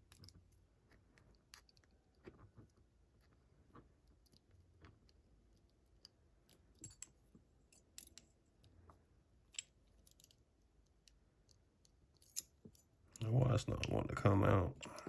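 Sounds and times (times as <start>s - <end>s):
small metallic clicks and scrapes: 0.0s - 14.1s.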